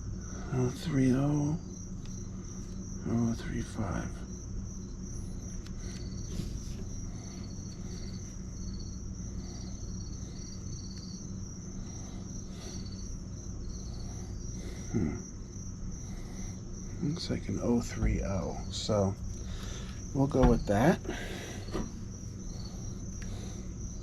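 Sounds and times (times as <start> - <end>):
cricket chirping: 0.0 - 24.0
low electrical hum: 0.0 - 24.0.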